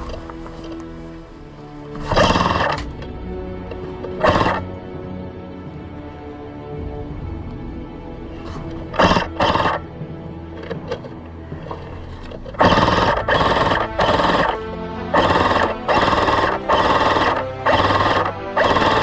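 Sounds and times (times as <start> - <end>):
sustained background music tones: 0.0 - 19.0.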